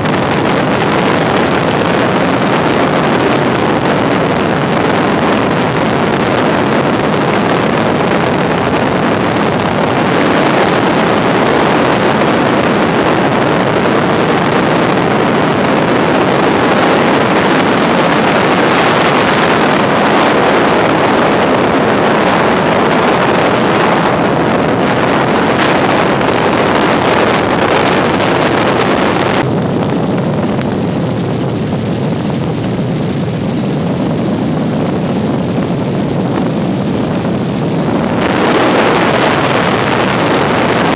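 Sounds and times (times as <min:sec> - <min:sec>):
helicopter cabin engine and rotor noise: 0:00.0 - 0:40.9.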